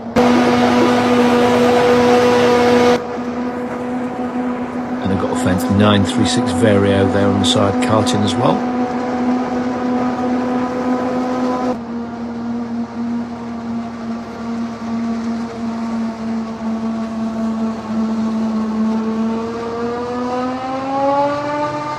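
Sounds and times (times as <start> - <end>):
farm machinery engine humming: 0.0 - 21.2.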